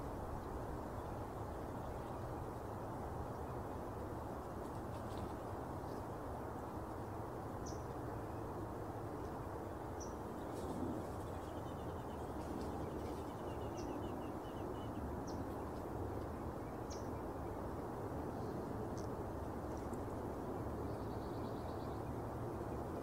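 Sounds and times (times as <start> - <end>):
low background noise: 0.0 - 23.0.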